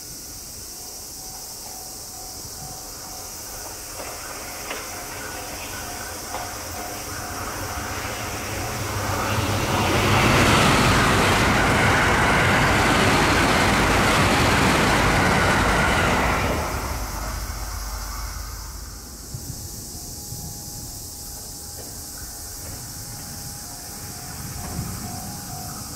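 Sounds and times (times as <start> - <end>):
electric train passing: 0.0 - 25.9.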